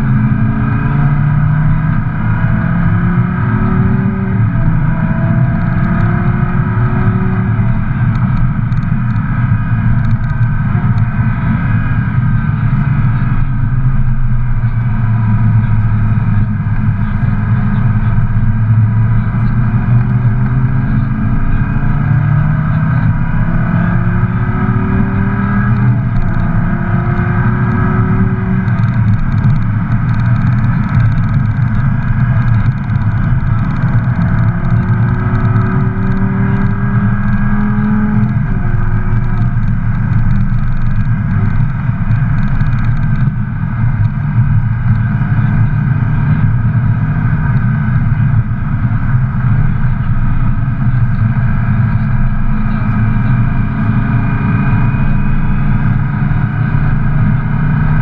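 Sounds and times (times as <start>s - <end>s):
road and wind noise: 0.0s - 58.0s
sports car engine accelerating: 0.0s - 58.0s.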